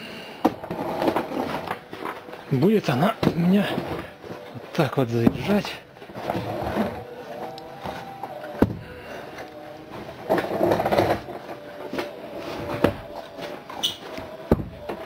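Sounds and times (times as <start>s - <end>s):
wheels rolling over wooden boards: 0.4s - 15.0s
wood scraping and rattling: 0.4s - 15.0s.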